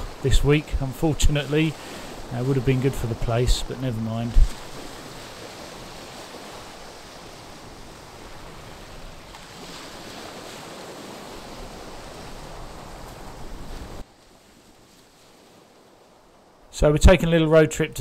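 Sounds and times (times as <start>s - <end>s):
waves washing up a shingle beach: 0.0s - 17.6s.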